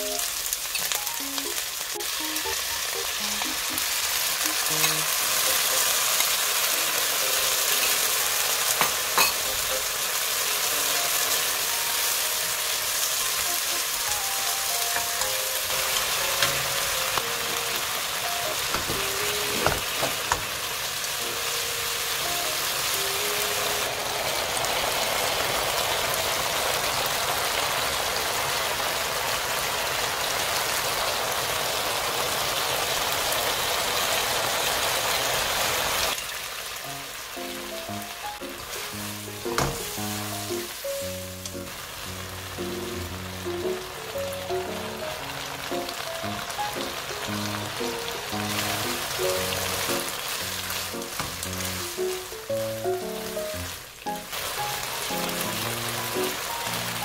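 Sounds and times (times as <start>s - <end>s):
peppers sizzling in a frying pan: 0.0s - 57.0s.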